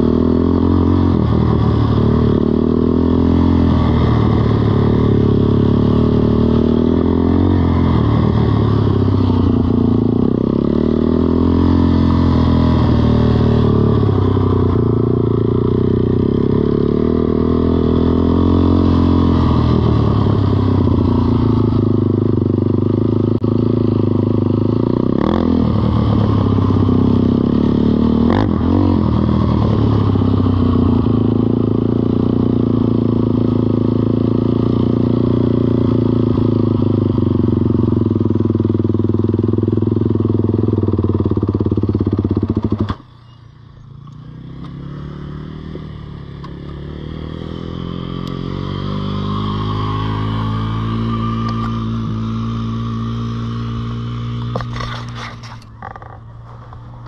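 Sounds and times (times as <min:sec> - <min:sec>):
small four-stroke engine running: 0:00.0 - 0:57.0.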